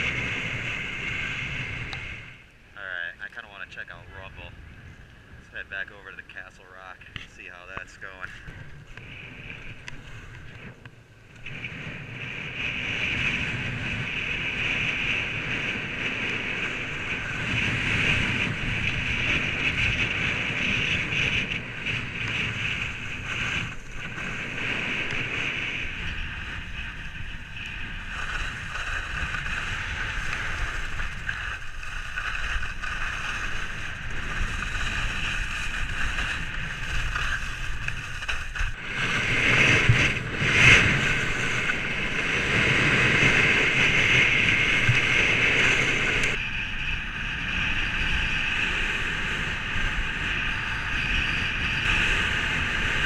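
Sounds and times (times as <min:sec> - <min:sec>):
skis scraping over snow: 0:00.0 - 0:02.4, 0:05.5 - 0:53.0
wind rushing over microphone: 0:00.0 - 0:53.0.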